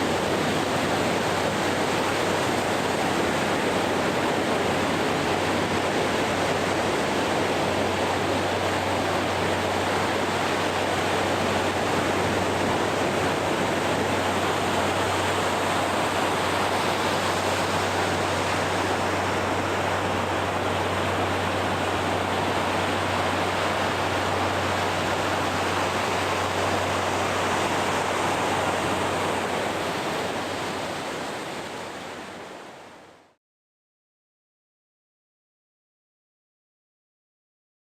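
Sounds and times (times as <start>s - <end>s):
ocean surf on a beach: 0.0s - 33.4s.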